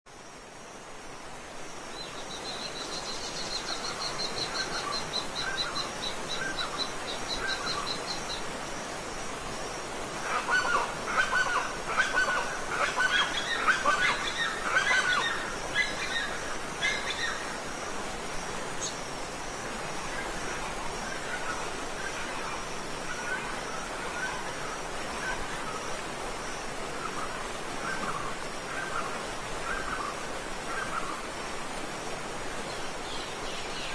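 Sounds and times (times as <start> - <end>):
waterfall rushing: 0.9 - 33.9.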